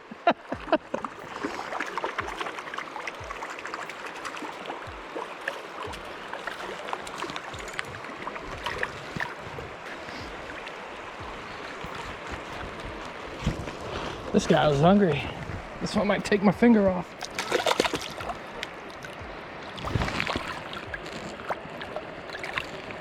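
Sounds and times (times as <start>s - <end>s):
river water running over rocks: 0.0s - 23.0s.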